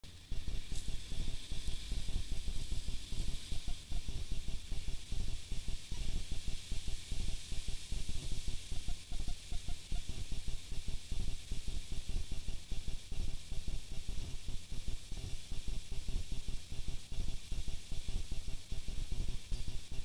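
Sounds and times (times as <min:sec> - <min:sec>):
microphone hiss: 0:00.0 - 0:20.0.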